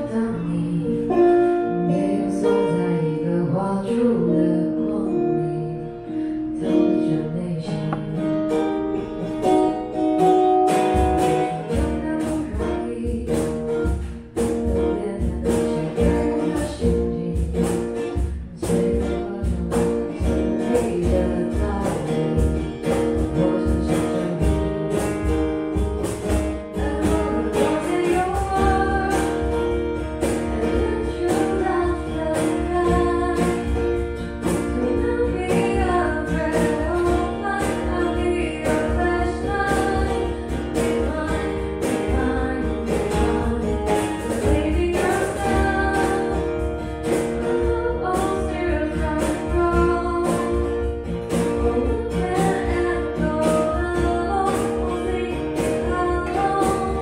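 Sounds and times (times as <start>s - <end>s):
woman singing into a microphone: 0.0s - 8.7s, 9.8s - 25.3s, 26.0s - 57.0s
strummed acoustic guitar: 0.0s - 57.0s.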